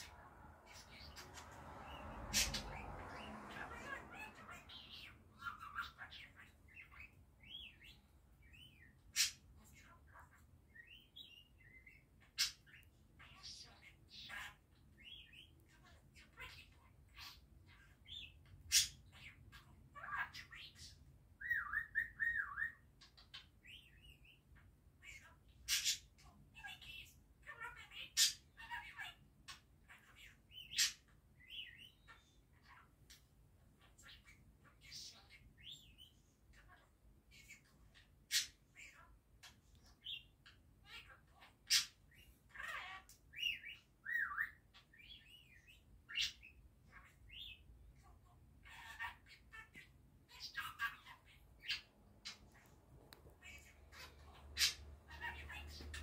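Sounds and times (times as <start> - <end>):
budgerigar chirping and chattering: 0.0 - 56.0.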